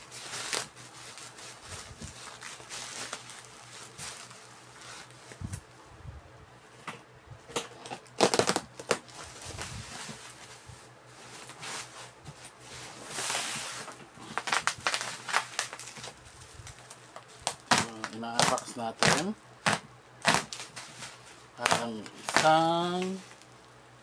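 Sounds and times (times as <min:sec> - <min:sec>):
packaging crinkling and rustling: 0:00.0 - 0:05.5, 0:07.5 - 0:23.7.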